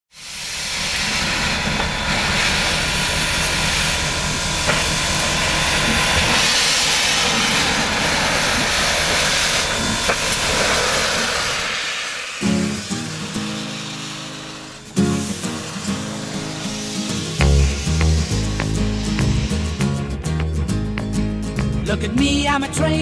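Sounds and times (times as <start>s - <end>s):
steam locomotive hissing: 0.1s - 21.8s.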